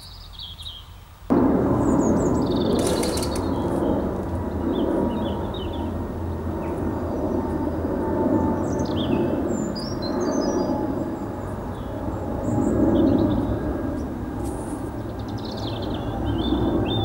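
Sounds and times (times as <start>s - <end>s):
small birds chirping: 0.0s - 1.1s, 2.1s - 7.9s, 8.6s - 17.0s
low rumble: 1.3s - 17.0s.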